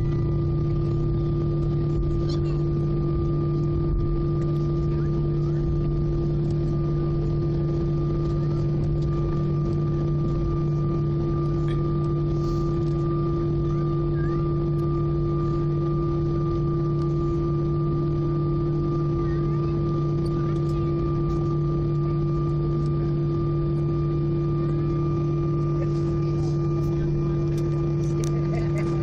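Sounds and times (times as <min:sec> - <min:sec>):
airplane cabin engine drone: 0:00.0 - 0:29.0.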